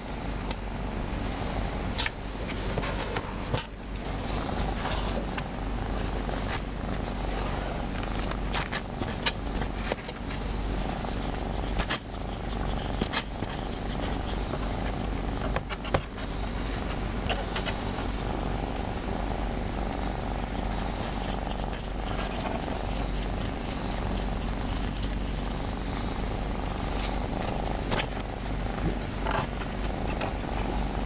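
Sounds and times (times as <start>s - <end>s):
cat purring: 1.0s - 31.0s
hand rustling fur: 1.1s - 31.0s.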